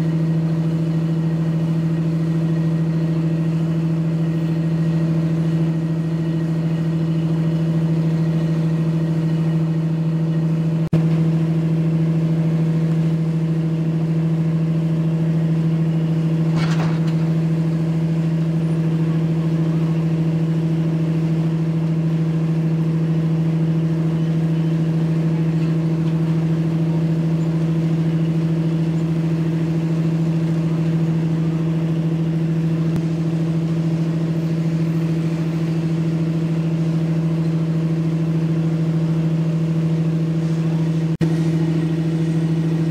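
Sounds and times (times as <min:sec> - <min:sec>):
engine humming: 0:00.0 - 0:42.9.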